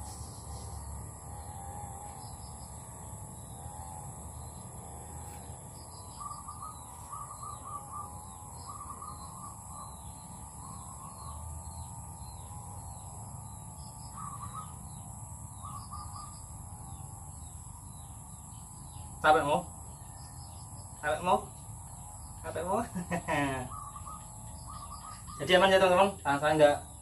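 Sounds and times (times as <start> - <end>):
birds chattering: 0.0 - 27.0.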